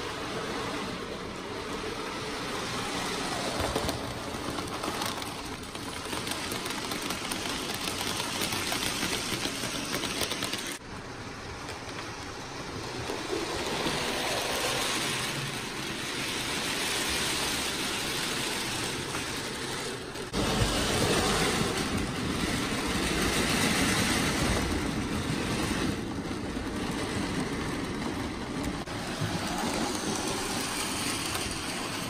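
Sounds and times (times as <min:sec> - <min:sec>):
model train wheels rattling: 0:00.4 - 0:32.0.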